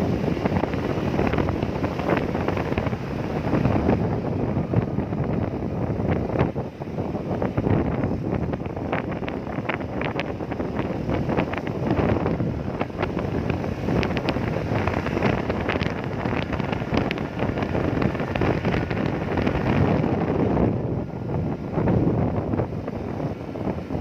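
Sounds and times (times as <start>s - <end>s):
rushing rumbling noise: 0.0s - 24.0s
wind buffeting microphone: 0.0s - 24.0s.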